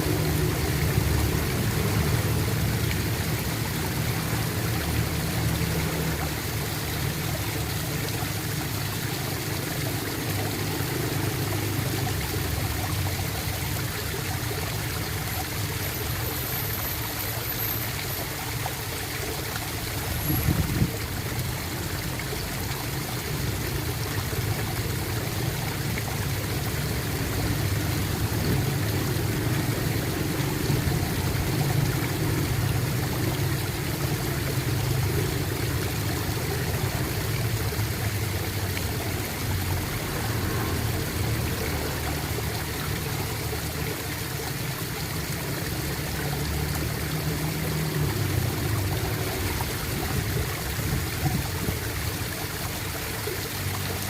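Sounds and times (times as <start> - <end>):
running water gurgling: 0.0 - 54.0.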